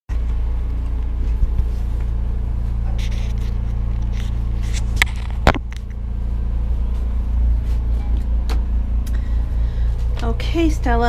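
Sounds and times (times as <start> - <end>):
low motor hum: 0.1 - 11.0.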